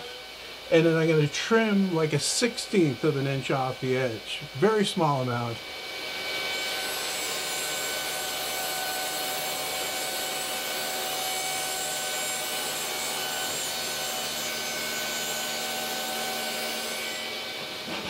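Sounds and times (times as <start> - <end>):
table saw cutting wood: 0.0 - 18.0.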